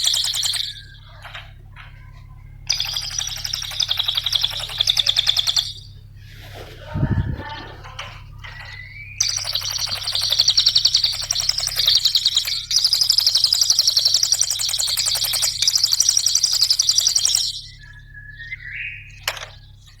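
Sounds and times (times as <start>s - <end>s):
songbird whistle and rapid trill: 0.0s - 1.1s, 2.7s - 5.9s, 6.5s - 19.8s.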